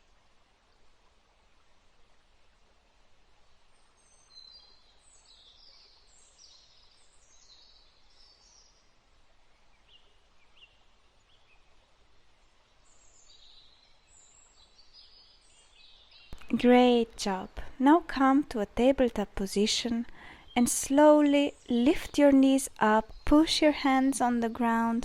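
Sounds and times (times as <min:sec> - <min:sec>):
faint bird chirping: 0:03.4 - 0:25.0.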